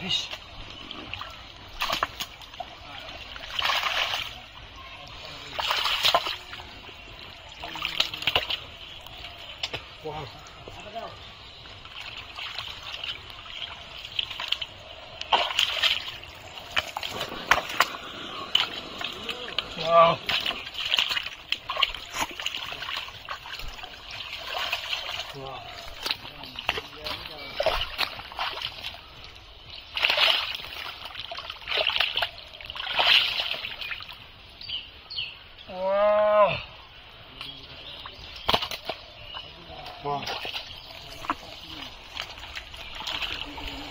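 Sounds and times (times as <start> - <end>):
muddy water sloshing and splashing: 0.0 - 34.6, 37.2 - 43.9.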